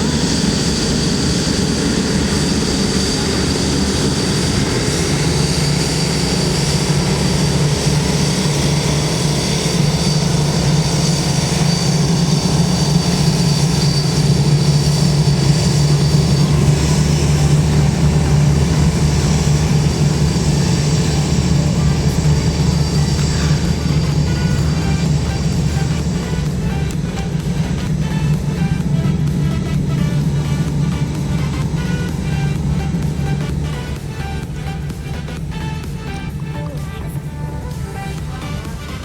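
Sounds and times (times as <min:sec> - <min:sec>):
high engine whine: 0:00.0 - 0:39.0
jet engines rumbling: 0:00.0 - 0:39.0.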